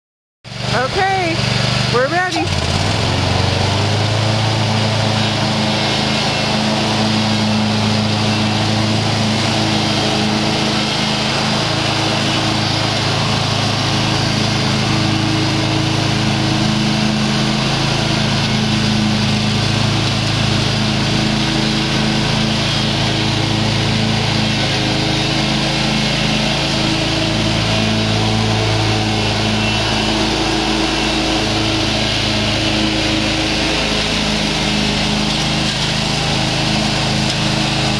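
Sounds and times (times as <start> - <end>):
mower blades cutting grass: 0.5 - 37.9
mower engine running: 0.5 - 37.9.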